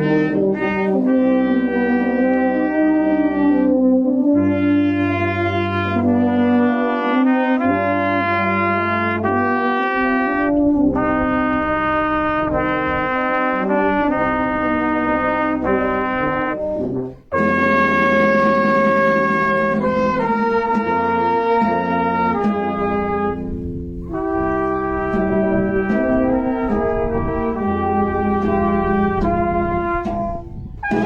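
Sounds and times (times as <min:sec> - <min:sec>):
wind band playing chords: 0:00.0 - 0:31.0.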